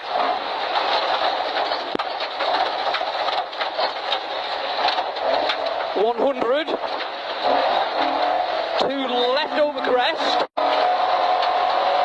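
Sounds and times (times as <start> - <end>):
stones striking car: 0.0 - 9.6
car engine running: 0.0 - 12.0.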